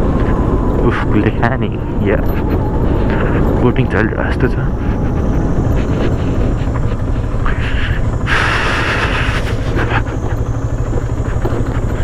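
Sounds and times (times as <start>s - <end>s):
motorcycle engine and wind rumble: 0.0s - 12.0s.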